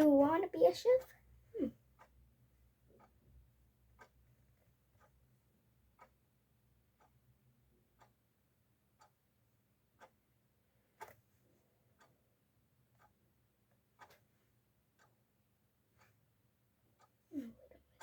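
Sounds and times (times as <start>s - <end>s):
clock ticking: 0.0s - 18.0s.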